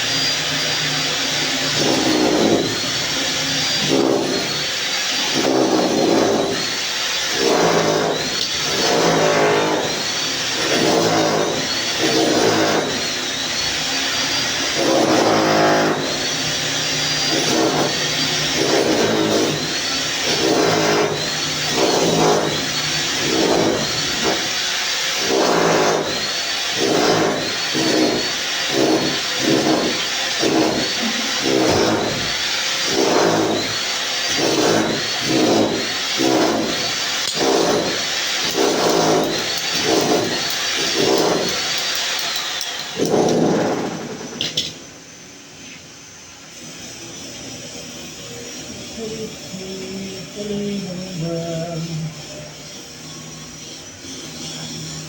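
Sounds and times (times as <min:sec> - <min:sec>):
motor revving in bursts: 0:00.0 - 0:45.2.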